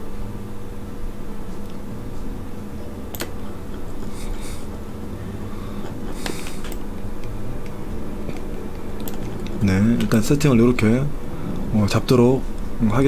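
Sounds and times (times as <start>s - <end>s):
computer hum: 0.0s - 13.0s.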